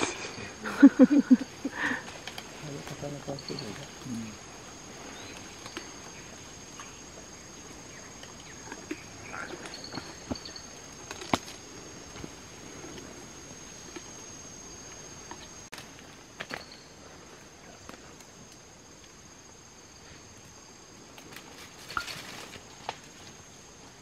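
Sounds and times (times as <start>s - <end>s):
high-pitched insect drone: 0.0s - 24.0s
snaps and rustles of vegetation: 1.1s - 24.0s.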